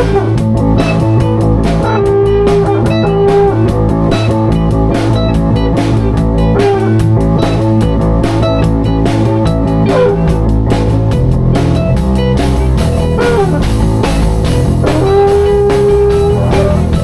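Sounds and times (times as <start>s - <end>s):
electric guitar playing: 0.0s - 17.0s
steady drum beat: 0.0s - 17.0s
sustained notes: 0.0s - 17.0s.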